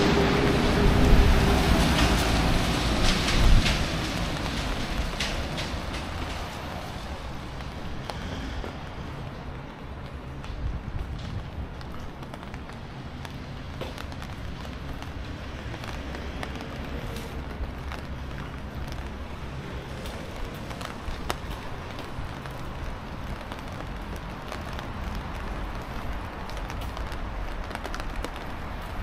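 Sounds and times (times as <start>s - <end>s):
low rumble of city noise: 0.0s - 29.0s.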